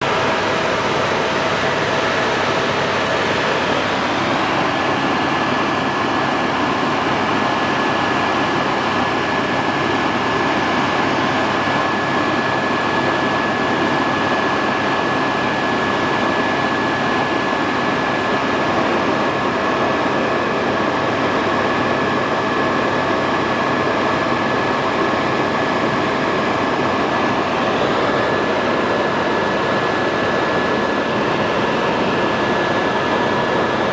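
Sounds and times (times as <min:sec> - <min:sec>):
helicopter rotor and engine rumble: 0:00.0 - 0:33.9.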